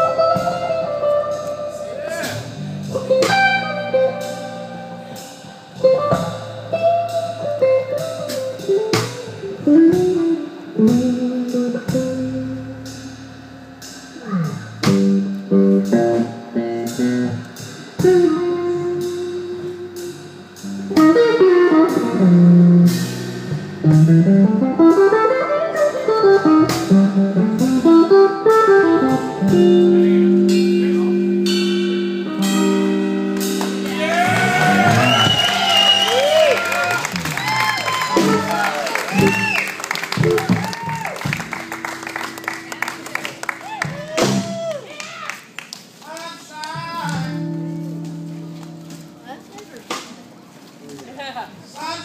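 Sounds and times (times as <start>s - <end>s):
bass line: 0.0s - 44.8s
electric guitar blues lead: 0.0s - 46.0s, 46.7s - 50.8s.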